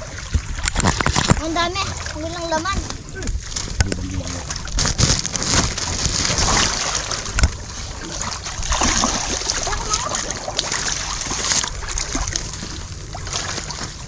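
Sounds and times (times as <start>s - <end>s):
muddy water splashing: 0.0s - 14.0s.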